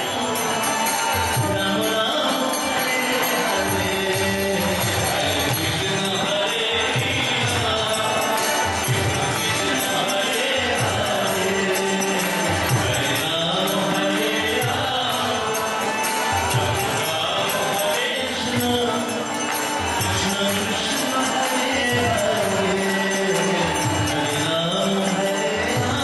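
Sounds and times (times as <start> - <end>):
jingling hand cymbals: 0.0 - 26.0
voices chanting together: 0.0 - 26.0.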